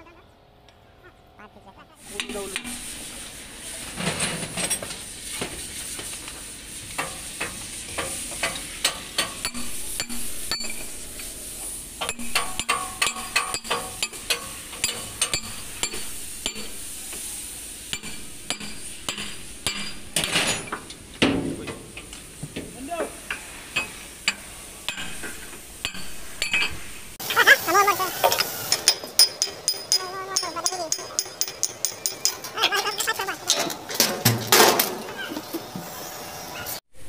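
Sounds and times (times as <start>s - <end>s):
steady hiss: 2.0s - 32.4s.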